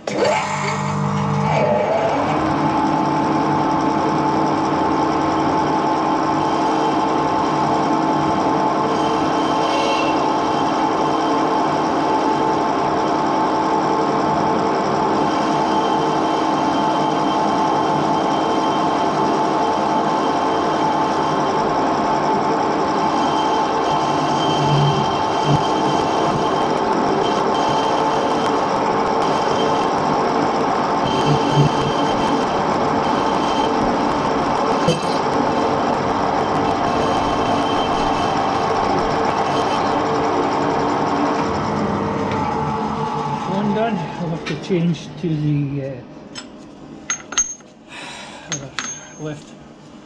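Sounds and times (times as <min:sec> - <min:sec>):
metal lathe humming: 0:01.0 - 0:44.5.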